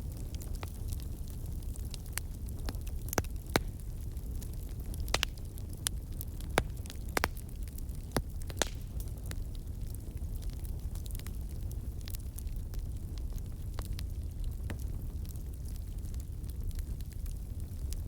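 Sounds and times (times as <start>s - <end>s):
fire crackling and popping: 0.0s - 18.0s
wood fire rumble: 0.0s - 18.0s.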